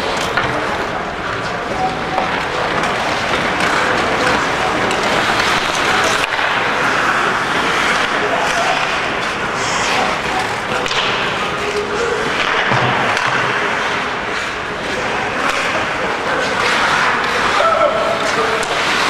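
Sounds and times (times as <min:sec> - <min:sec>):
arena noise: 0:00.0 - 0:19.0
hockey stick and puck clicks: 0:00.0 - 0:19.0
skate blades scraping ice: 0:00.0 - 0:19.0.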